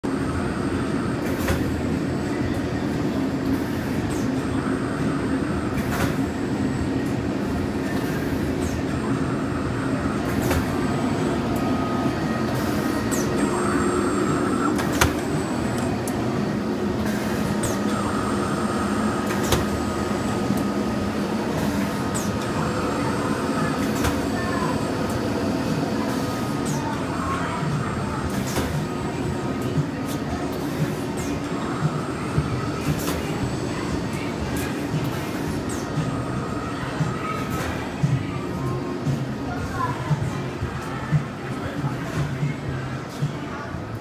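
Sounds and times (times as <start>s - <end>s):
printing press mechanical hum: 0.0s - 44.0s.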